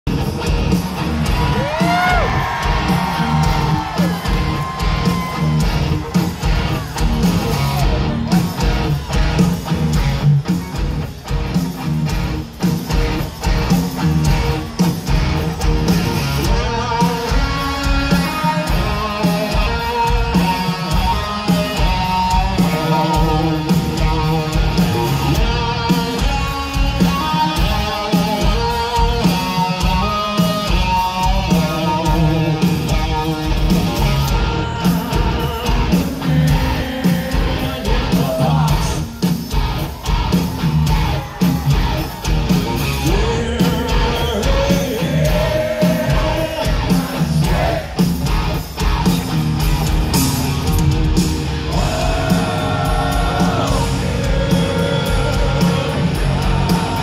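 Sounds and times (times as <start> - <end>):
heavy electric guitar riff: 0.1 - 57.0
live rock band: 0.1 - 57.0
pounding drums: 0.1 - 57.0.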